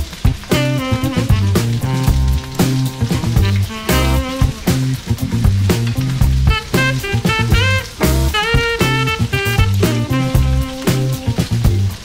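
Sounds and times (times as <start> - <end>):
background music with bass beat: 0.0 - 12.0
chicken sizzling in a wok: 0.0 - 12.0.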